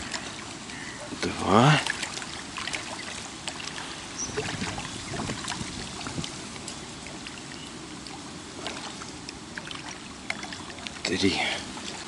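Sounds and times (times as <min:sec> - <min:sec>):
open-air background hiss: 0:00.0 - 0:12.0.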